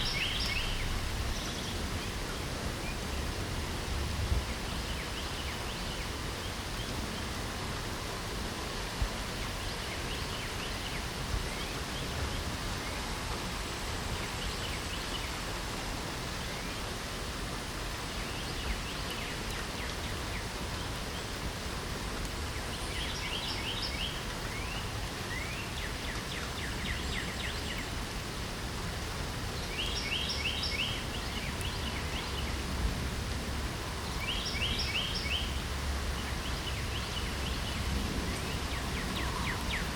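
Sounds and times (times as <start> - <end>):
songbirds chirping: 0.0 - 17.2, 17.8 - 39.9
rain hiss: 0.0 - 39.9.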